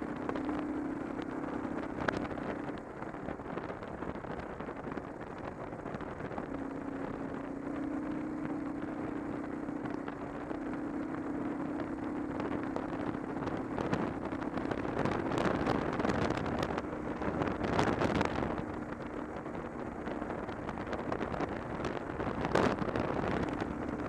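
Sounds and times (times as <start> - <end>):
motorcycle engine drone: 0.0 - 24.0
wind rushing over microphone: 0.0 - 24.0.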